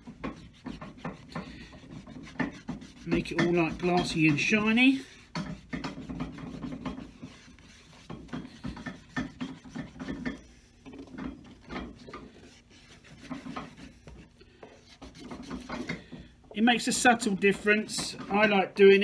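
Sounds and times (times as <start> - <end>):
wood scraping leather sole: 0.0 - 16.1.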